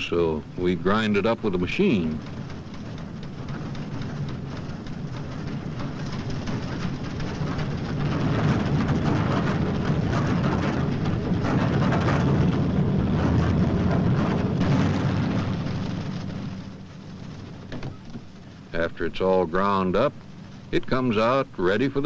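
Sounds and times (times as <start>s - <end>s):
engine drone: 0.0s - 22.0s
machine grinding corn: 0.0s - 22.0s.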